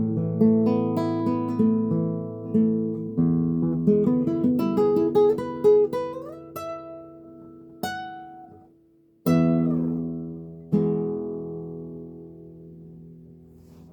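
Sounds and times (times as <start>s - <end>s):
plucked guitar: 0.0s - 13.9s.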